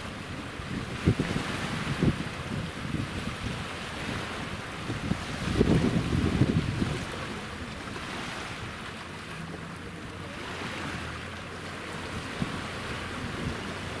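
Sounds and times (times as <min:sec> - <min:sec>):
wind on microphone: 0:00.0 - 0:09.6, 0:10.2 - 0:14.0
sea waves washing in: 0:00.0 - 0:14.0.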